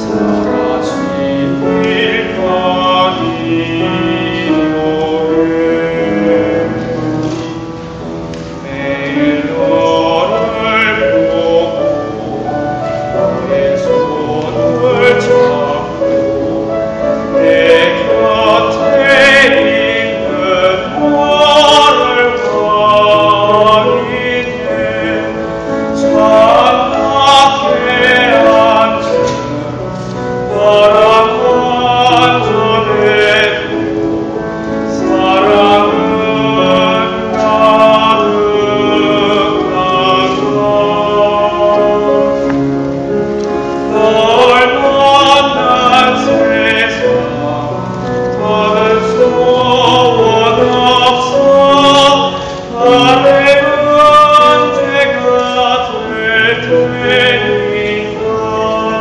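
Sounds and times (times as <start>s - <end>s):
boy singing operatic ballad: 0.0s - 59.0s
orchestra of strings and winds: 0.0s - 59.0s.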